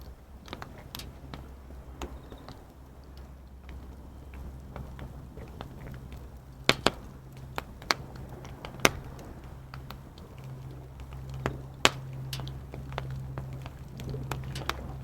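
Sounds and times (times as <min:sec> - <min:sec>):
campfire crackling and popping: 0:00.0 - 0:15.0
low background rumble: 0:00.0 - 0:15.0.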